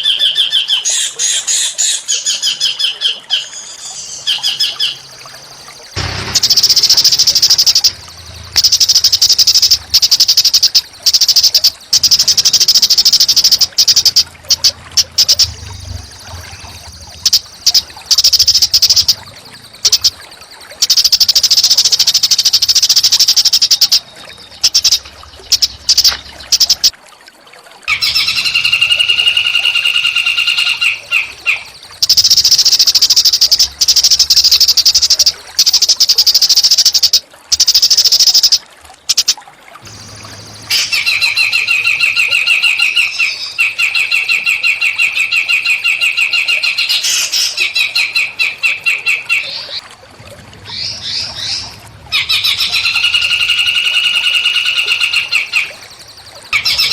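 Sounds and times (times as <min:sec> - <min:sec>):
bird steady call: 0:00.0 - 0:26.9, 0:27.9 - 0:49.8, 0:50.6 - 0:56.9
songbirds buzzy song: 0:00.0 - 0:26.9, 0:27.9 - 0:56.9.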